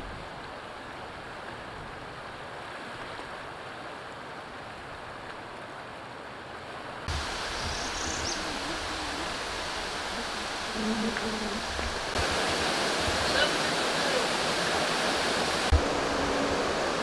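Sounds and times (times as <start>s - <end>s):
river water rushing over rocks: 0.0s - 17.0s.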